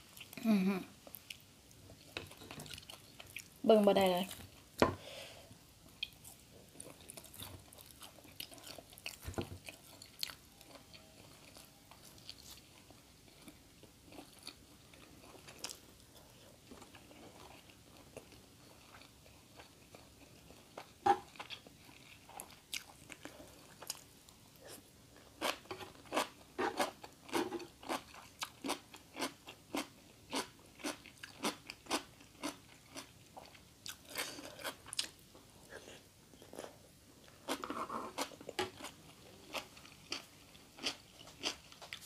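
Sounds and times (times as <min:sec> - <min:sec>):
person chewing: 0:00.1 - 0:03.6, 0:05.9 - 0:24.0, 0:24.6 - 0:42.0.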